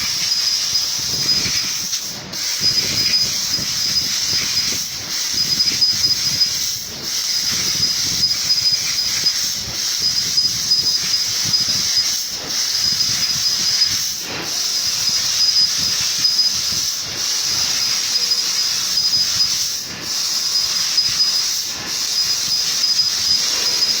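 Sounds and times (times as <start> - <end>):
cnc machine hissing and whining: 0.0 - 24.0.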